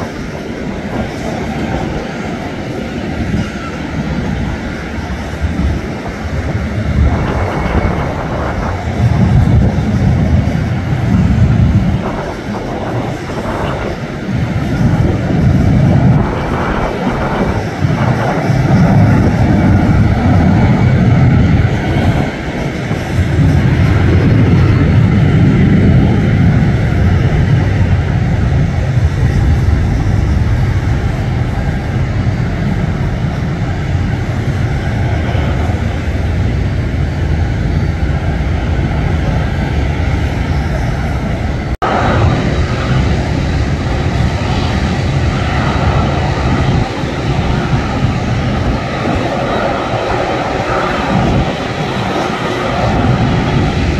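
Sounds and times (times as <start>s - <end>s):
jet engine rumble: 0.0s - 53.9s.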